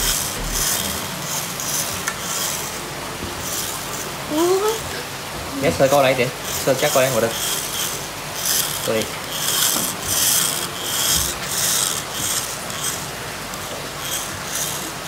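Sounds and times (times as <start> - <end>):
toy car motor whirring: 0.0 - 15.0.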